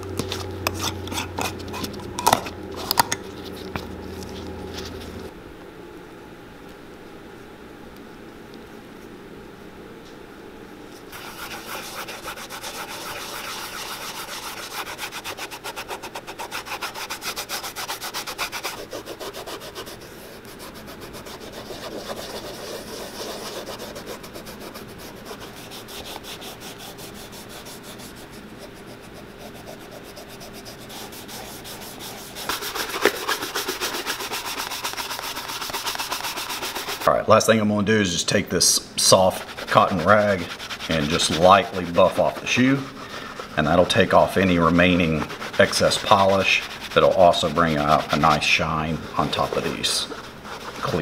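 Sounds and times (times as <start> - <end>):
rag rubbing polish into leather: 0.0 - 5.3, 11.0 - 37.2, 39.0 - 51.0
shoe brush buffing leather: 0.1 - 5.3, 11.1 - 37.1, 39.0 - 51.0.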